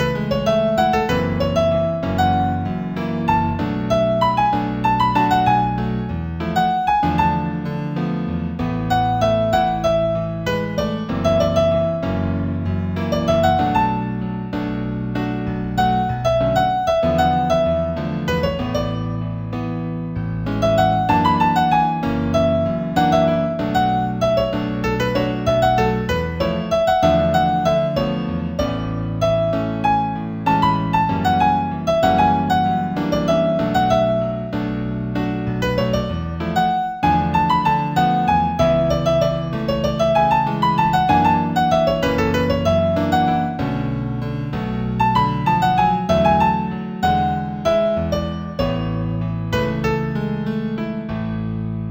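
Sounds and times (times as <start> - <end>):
solo piano music: 0.0 - 51.9.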